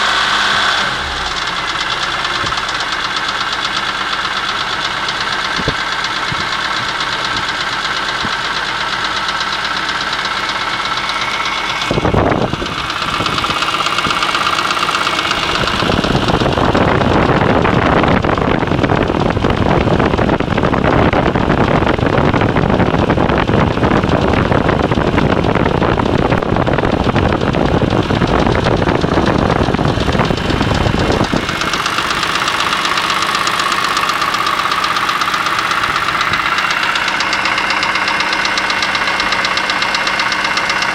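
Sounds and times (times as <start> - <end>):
engine running with rattle: 0.0 - 40.9.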